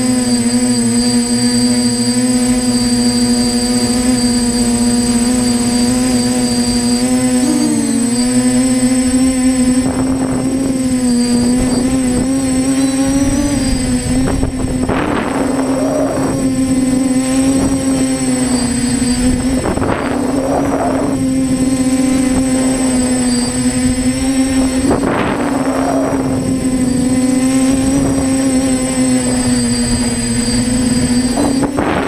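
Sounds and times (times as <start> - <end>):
drone propellers buzzing: 0.0 - 32.0
wind noise rushes: 2.8 - 32.0.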